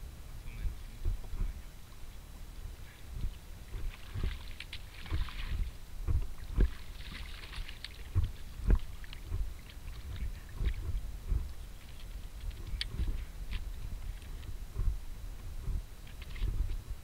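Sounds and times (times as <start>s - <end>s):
low thumps and bumps: 0.0s - 1.7s, 3.0s - 17.0s
paddle swishing water: 2.9s - 17.0s.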